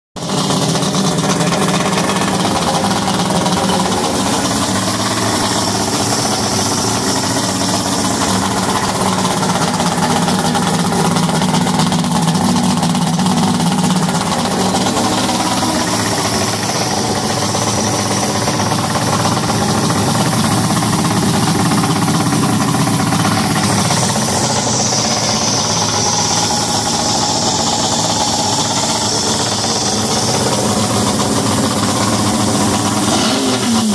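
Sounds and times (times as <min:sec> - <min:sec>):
outboard motor running: 0:00.2 - 0:33.9.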